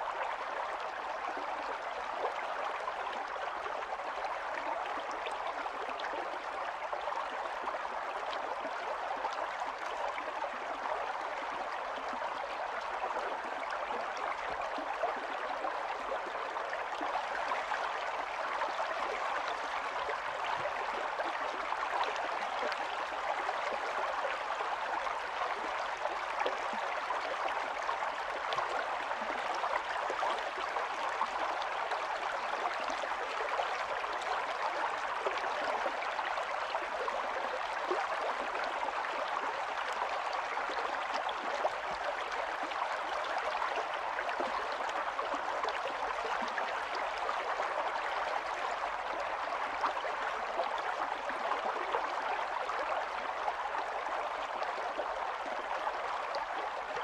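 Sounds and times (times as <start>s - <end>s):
stream gurgling over stones: 0.0s - 57.0s.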